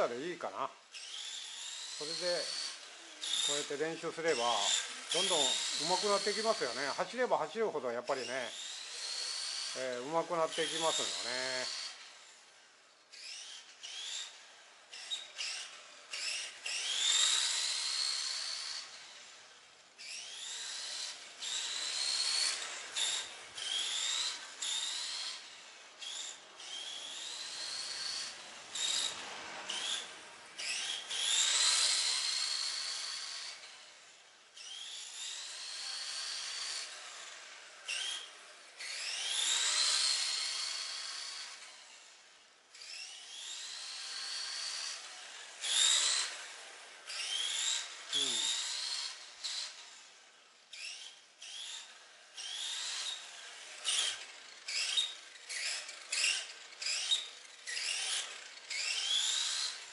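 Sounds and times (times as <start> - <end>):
toy car electric motor whining: 0.0 - 59.9.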